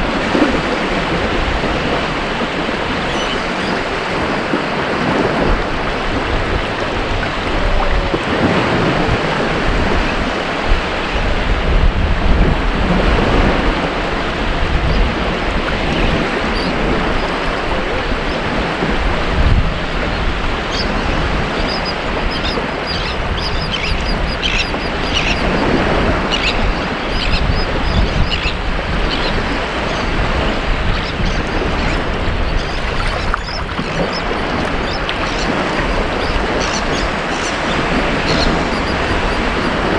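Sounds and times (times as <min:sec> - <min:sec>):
ocean surf washing on beach: 0:00.0 - 0:23.4, 0:27.7 - 0:39.9.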